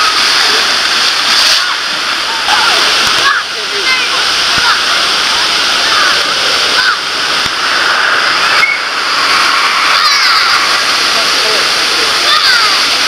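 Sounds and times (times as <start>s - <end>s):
water rushing down slides: 0.0s - 13.0s.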